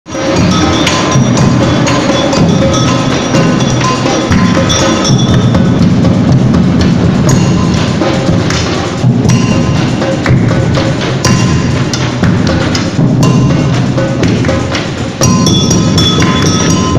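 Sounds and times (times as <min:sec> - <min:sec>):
bass drums and snare drums: 0:00.1 - 0:16.9
clacking hand percussion: 0:00.1 - 0:16.9.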